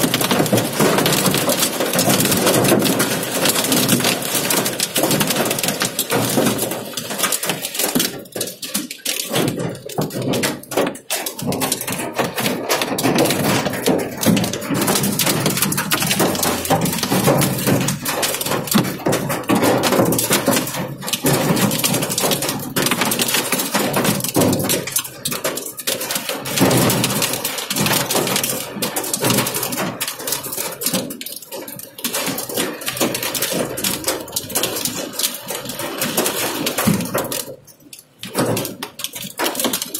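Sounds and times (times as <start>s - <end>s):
heavy rain drumming on a car: 0.0s - 39.9s.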